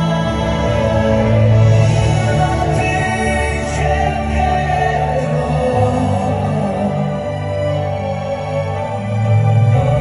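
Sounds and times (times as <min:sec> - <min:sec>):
live pop ballad with orchestra: 0:00.0 - 0:10.0.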